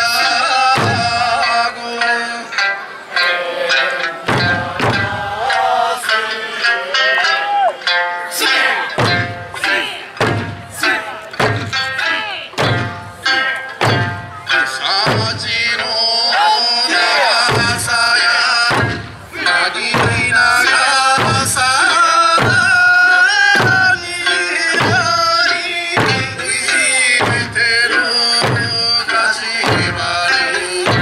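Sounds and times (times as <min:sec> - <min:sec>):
drums struck on the beat: 0:00.0 - 0:01.7, 0:04.2 - 0:05.7, 0:09.0 - 0:31.0
folk singing: 0:00.0 - 0:31.0.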